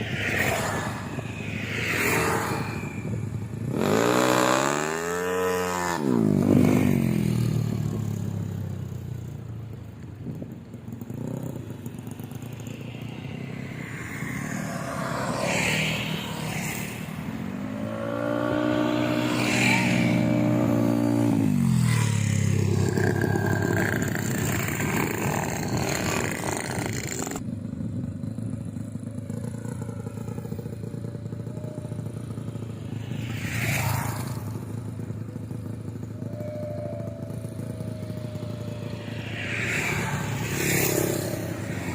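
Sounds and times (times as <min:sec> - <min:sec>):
scooter engine revving and idling: 0:01.0 - 0:41.9.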